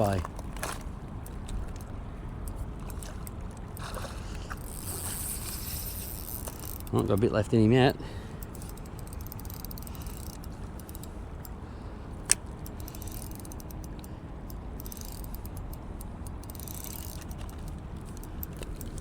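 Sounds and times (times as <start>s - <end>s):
fishing reel ticking: 1.2s - 11.6s, 12.2s - 19.0s.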